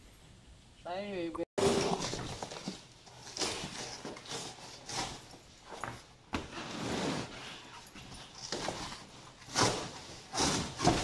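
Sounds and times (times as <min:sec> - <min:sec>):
boxed fridge scuffing and knocking: 0:01.6 - 0:11.0.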